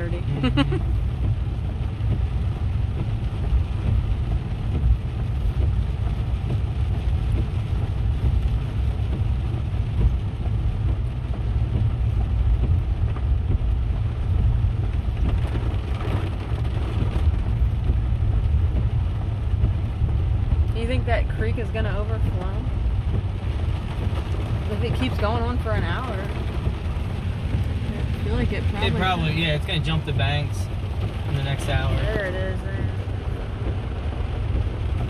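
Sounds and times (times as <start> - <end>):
car driving on wet road: 0.0 - 35.0.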